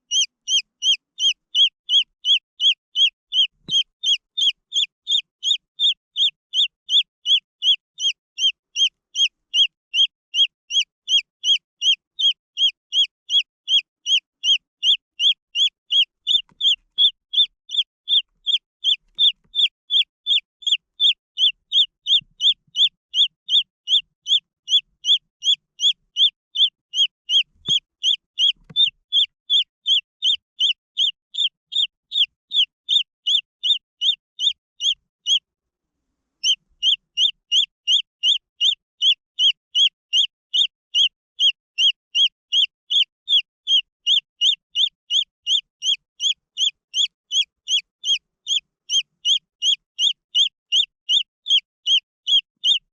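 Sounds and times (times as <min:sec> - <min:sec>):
chick peeping: 0:00.1 - 0:35.4, 0:36.4 - 0:52.8.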